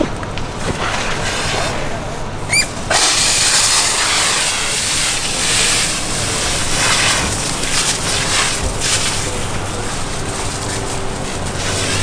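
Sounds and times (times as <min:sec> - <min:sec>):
hose spraying water on ground: 0:00.2 - 0:12.0.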